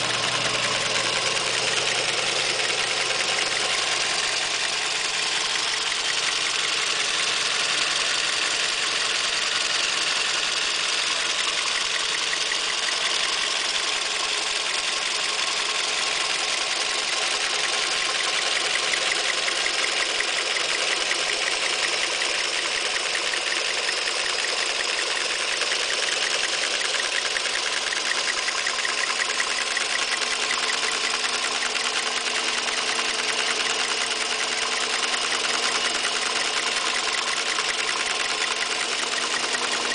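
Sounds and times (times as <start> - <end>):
fast light engine ticking: 0.0 - 39.9
petrol engine idling: 0.0 - 39.9.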